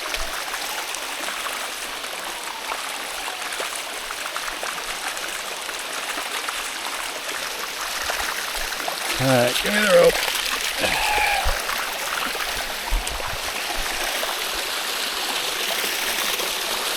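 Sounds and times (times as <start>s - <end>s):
water rushing over rocks: 0.0s - 16.9s.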